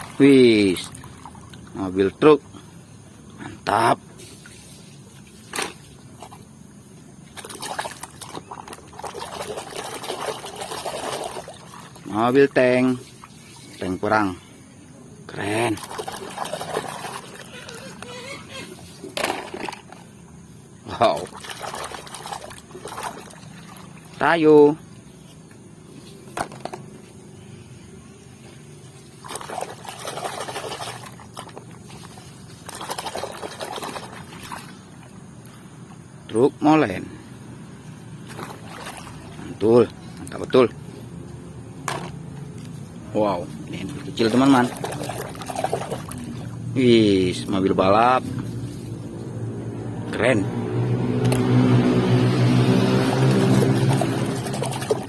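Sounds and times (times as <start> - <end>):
water sloshing in a basin: 0.0 - 3.4, 4.0 - 14.6, 15.2 - 27.3, 28.4 - 36.2, 37.7 - 50.1, 52.6 - 55.0.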